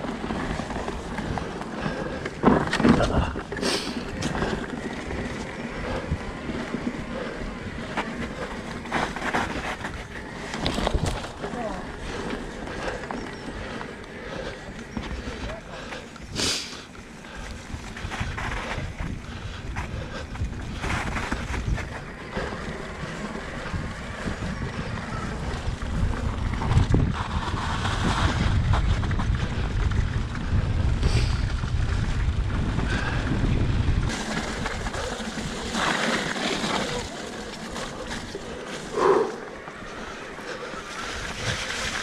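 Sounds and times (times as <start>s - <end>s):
wind buffeting microphone: 0.0s - 16.4s, 17.3s - 42.0s
bike tyre and trail noise: 0.0s - 42.0s.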